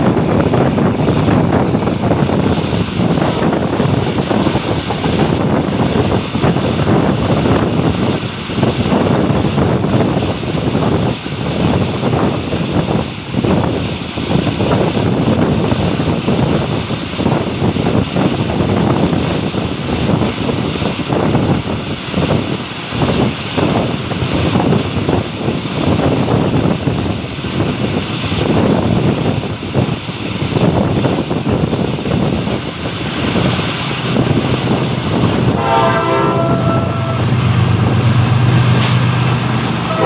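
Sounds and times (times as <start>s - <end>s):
passenger train rumbling: 0.0s - 40.0s
wind buffeting microphone: 0.0s - 40.0s.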